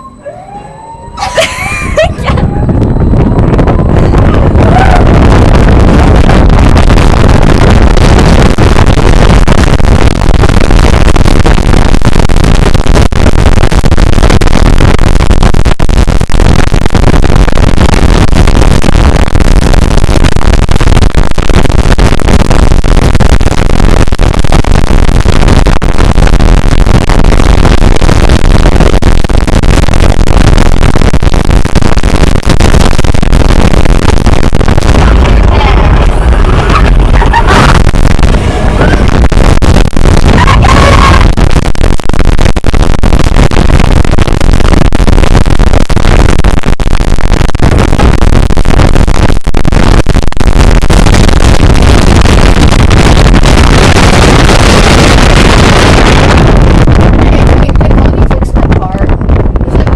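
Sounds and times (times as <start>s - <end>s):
wind buffeting microphone: 1.0s - 46.4s, 50.8s - 59.9s.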